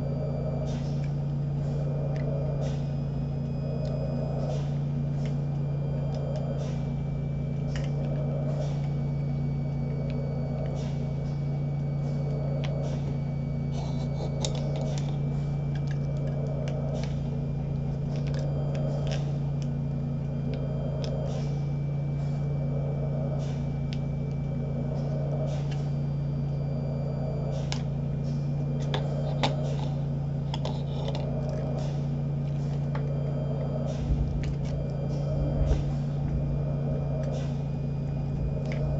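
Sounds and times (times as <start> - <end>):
ventilator hum and whoosh: 0.0 - 38.9.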